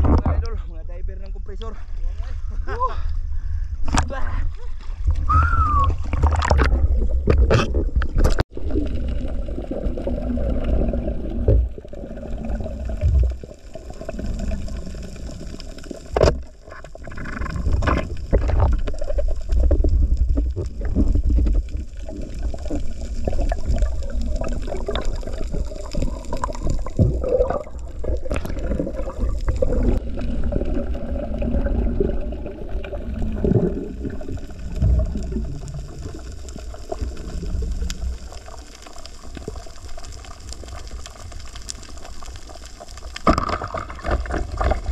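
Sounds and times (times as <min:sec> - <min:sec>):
underwater rumble and gurgle: 0:00.0 - 0:44.9.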